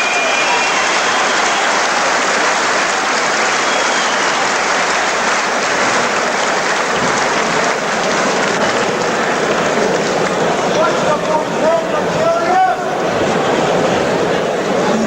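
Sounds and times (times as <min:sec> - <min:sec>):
crowd cheering and applauding: 0:00.0 - 0:15.0.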